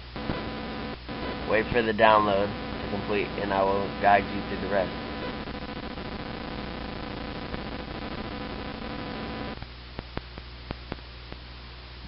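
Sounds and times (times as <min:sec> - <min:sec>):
electrical buzz and hiss: 0:00.0 - 0:12.0
mains hum: 0:00.0 - 0:12.0.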